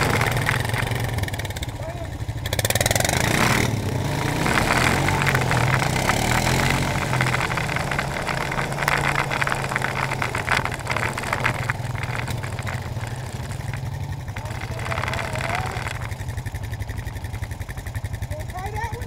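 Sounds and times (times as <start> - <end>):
knocks and rattles: 0.0 - 1.5, 2.7 - 17.5
atv engines running: 0.0 - 19.0.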